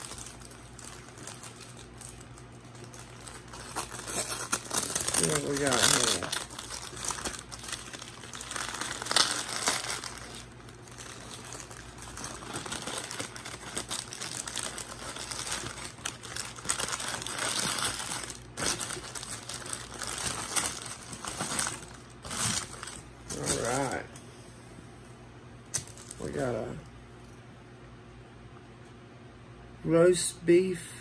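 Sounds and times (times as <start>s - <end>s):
paper wrapper crinkling: 0.0s - 24.1s, 25.7s - 26.6s.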